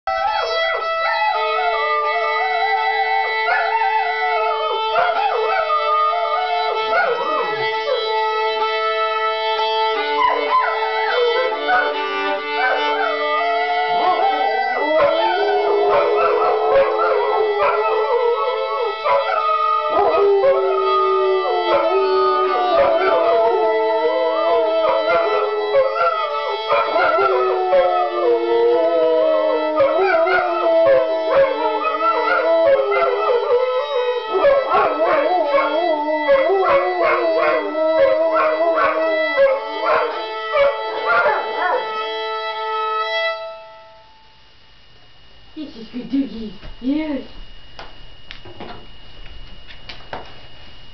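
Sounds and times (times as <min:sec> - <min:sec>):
dogs howling: 0:00.1 - 0:08.6, 0:09.5 - 0:42.7
violin holding long notes: 0:00.1 - 0:44.2.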